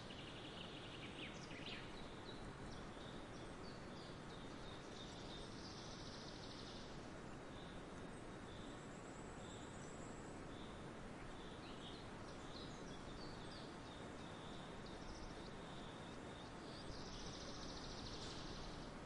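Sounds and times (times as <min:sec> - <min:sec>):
small birds chirping: 0:00.0 - 0:19.0
soft steady hiss: 0:00.0 - 0:19.0.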